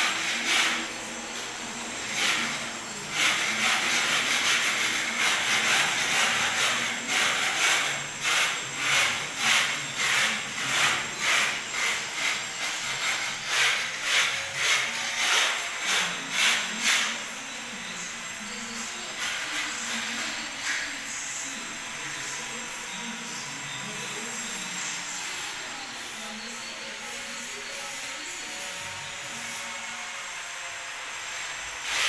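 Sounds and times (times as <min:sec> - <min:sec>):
broom sweeping concrete floor: 0:00.0 - 0:29.6.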